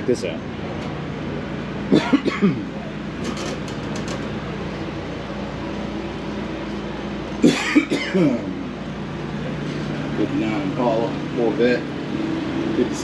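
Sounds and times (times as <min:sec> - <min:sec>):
low droning background hum: 0:00.0 - 0:13.0
voices: 0:00.0 - 0:13.0.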